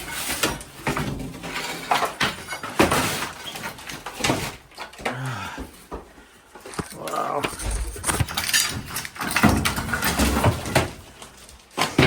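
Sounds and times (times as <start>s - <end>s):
hand tools knocking and clattering: 0.0s - 12.0s.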